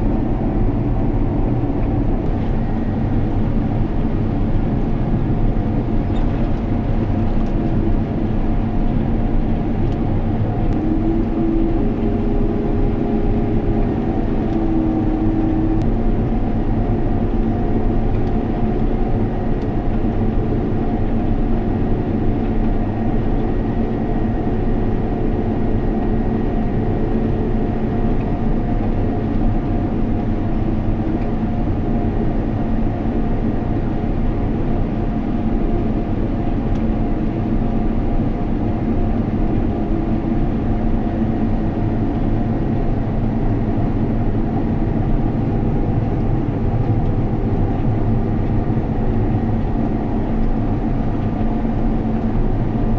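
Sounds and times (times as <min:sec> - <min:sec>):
combine harvester engine drone: 0:00.0 - 0:52.9.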